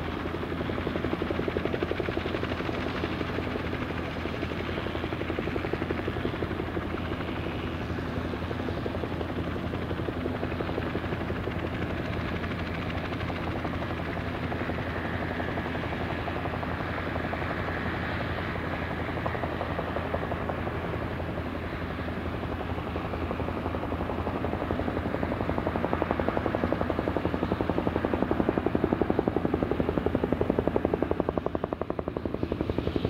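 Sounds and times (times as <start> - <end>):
helicopter rotor beating: 0.0 - 33.0.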